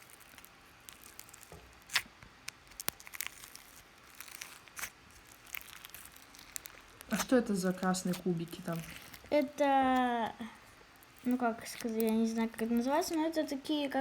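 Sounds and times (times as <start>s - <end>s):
plastic packaging crinkles: 0.0s - 14.0s.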